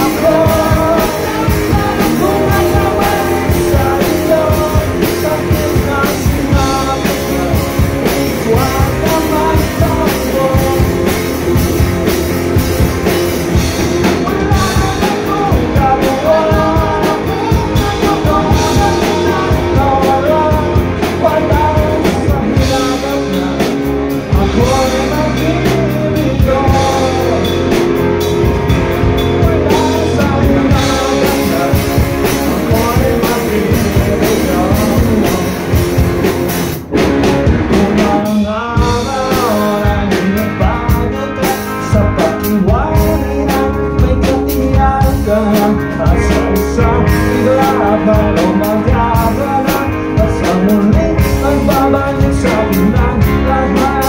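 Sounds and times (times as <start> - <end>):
person singing lead vocal: 0.0 - 36.4, 37.3 - 54.0
bass guitar: 0.0 - 54.0
drum kit: 0.0 - 54.0
electric guitar: 0.0 - 54.0.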